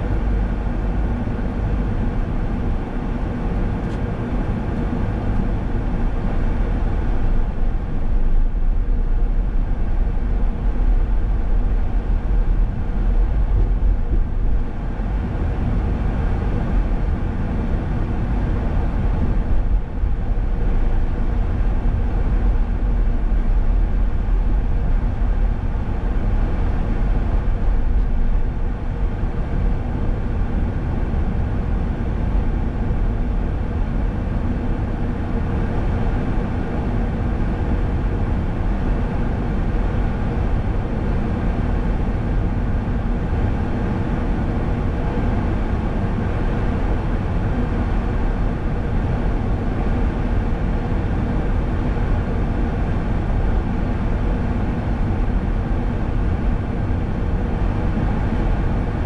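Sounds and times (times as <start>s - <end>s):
car engine and tyre road noise: 0.0s - 59.0s.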